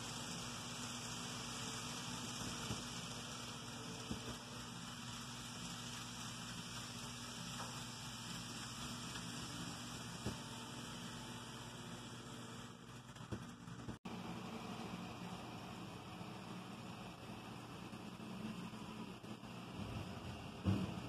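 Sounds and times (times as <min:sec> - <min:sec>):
model train whirring: 0:00.0 - 0:21.0.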